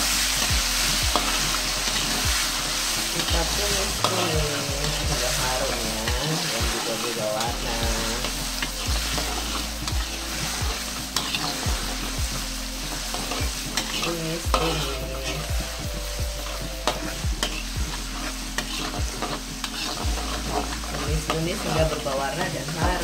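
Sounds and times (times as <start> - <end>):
ginger sizzling in oil: 0.0 - 23.0
spatula scraping wok: 0.0 - 23.0.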